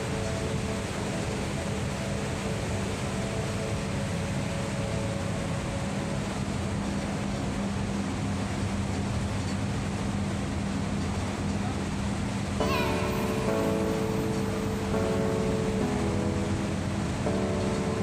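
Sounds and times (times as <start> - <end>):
sea noise: 0.0 - 18.0
ship engine drone: 0.0 - 18.0
wind: 0.0 - 18.0.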